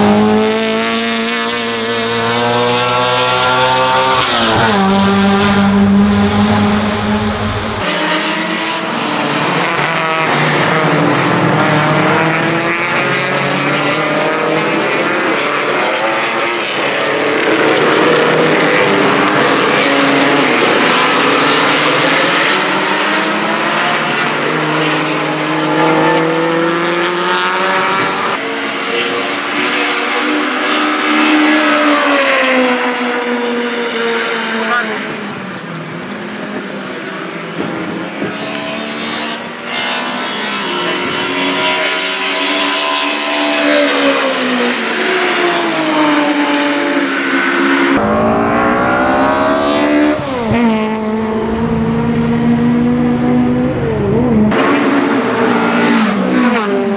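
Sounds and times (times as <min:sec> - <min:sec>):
racecar engine revving: 0:00.0 - 0:56.9.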